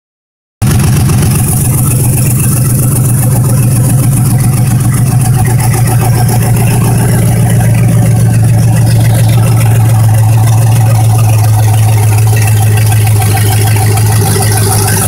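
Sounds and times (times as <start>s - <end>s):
car engine idling: 0.6s - 15.0s.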